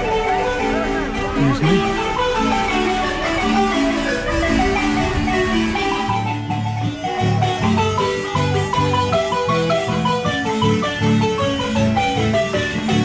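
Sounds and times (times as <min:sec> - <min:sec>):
bass line: 0:00.0 - 0:13.0
melody of struck notes: 0:00.0 - 0:13.0.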